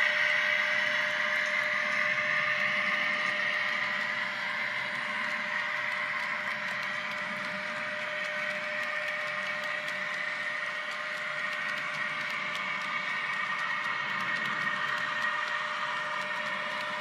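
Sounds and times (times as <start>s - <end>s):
model train motor whine: 0.0s - 17.0s
wheels rolling on track: 0.9s - 17.0s.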